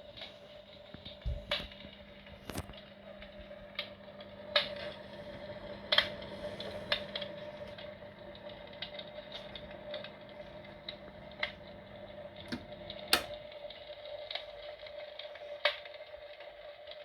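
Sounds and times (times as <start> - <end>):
steady hum: 0.0 - 14.8
simulated fire crackles and pops: 0.0 - 17.0.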